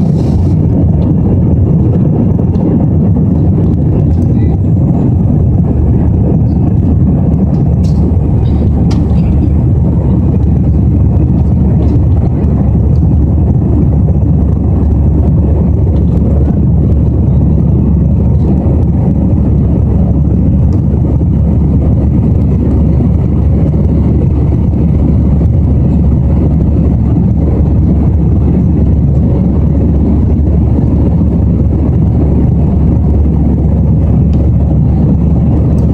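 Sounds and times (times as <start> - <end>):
jet engine roar in cabin: 0.0 - 35.9.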